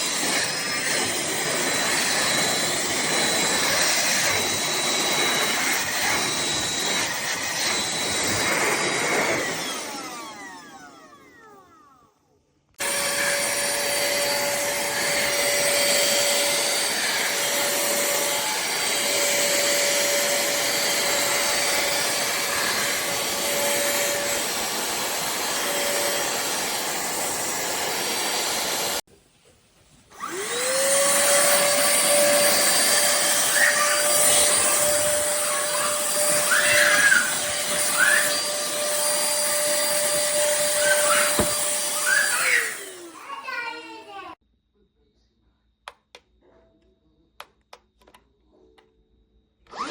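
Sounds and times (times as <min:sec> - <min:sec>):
handheld vacuum cleaner running: 0:00.0 - 0:12.2, 0:12.8 - 0:29.1, 0:30.1 - 0:44.4.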